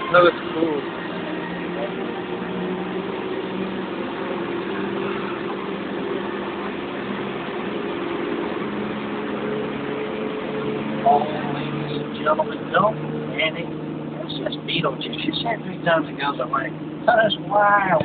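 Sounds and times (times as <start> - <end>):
tram engine drone: 0.0 - 18.0.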